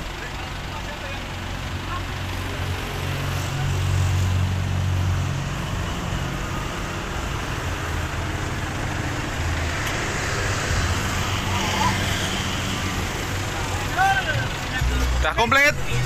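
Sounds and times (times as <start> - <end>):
bus diesel engine idling: 0.0 - 16.0.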